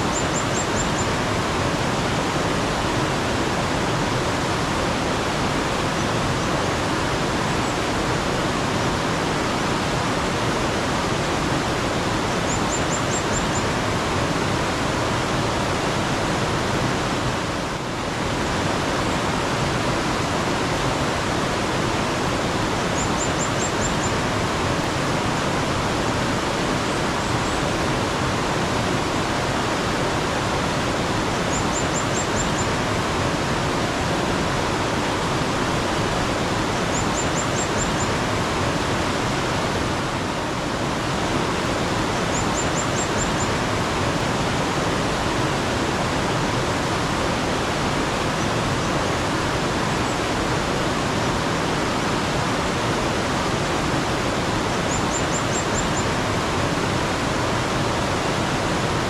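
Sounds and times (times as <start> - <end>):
rushing mountain stream: 0.0 - 59.0.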